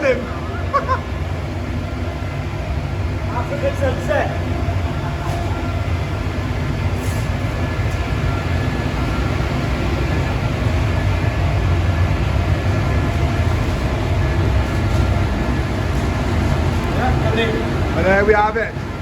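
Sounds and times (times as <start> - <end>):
machine rumbling: 0.0 - 19.0.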